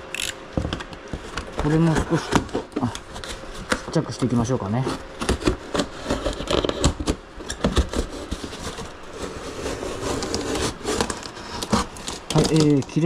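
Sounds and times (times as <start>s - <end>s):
knife cutting styrofoam: 1.7s - 13.0s.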